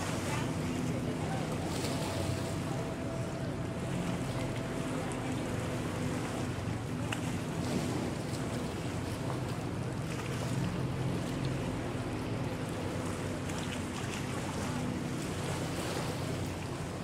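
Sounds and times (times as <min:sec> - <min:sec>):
speedboat engine droning: 0:00.0 - 0:17.0.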